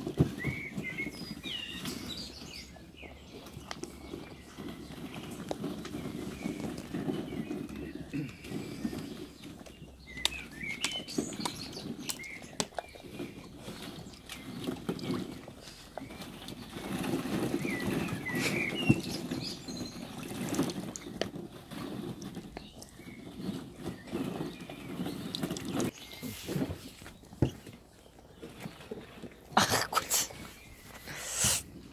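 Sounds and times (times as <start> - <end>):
puppies playing with plastic toys: 0.0 - 31.9.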